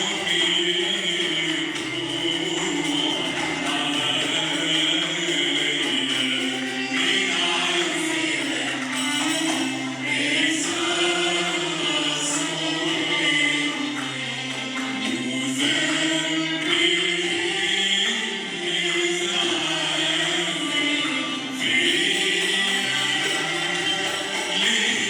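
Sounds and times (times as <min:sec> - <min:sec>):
voices singing together: 0:00.0 - 0:25.0.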